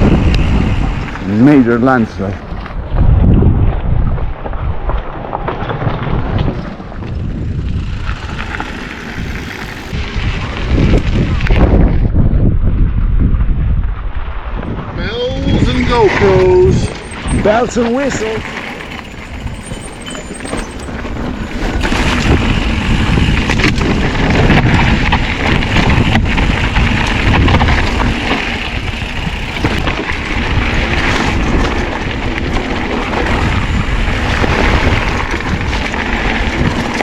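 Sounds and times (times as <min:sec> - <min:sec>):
bike jolting over bumps: 0:00.0 - 0:12.5, 0:14.4 - 0:37.0
tyre noise on dirt: 0:00.0 - 0:13.0, 0:14.2 - 0:37.0
wind rumble on microphone: 0:00.0 - 0:37.0.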